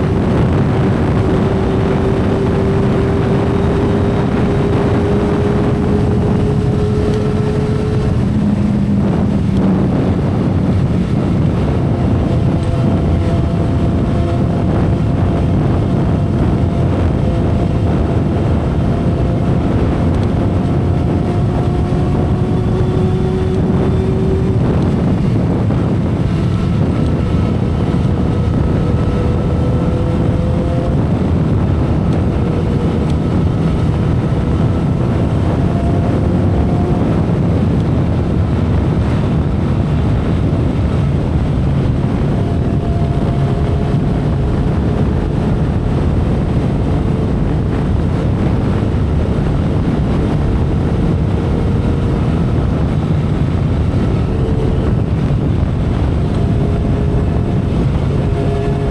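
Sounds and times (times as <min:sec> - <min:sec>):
motorcycle engine cruising: 0:00.0 - 0:58.9
wind rushing on microphone: 0:00.0 - 0:58.9.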